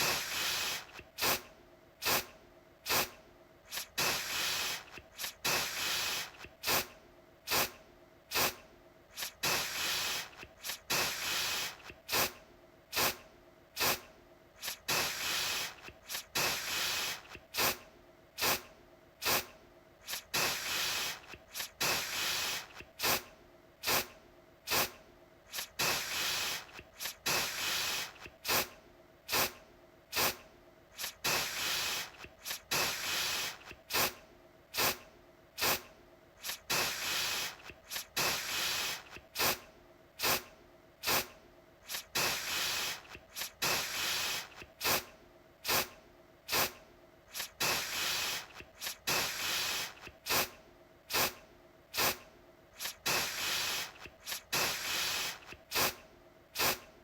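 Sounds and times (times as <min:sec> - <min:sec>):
aerosol can spraying: 0:00.0 - 0:06.9, 0:07.5 - 0:13.2, 0:13.8 - 0:17.8, 0:18.4 - 0:24.1, 0:24.7 - 0:30.4, 0:31.0 - 0:35.0, 0:35.6 - 0:39.6, 0:40.2 - 0:52.2, 0:52.8 - 0:56.0, 0:56.6 - 0:56.9.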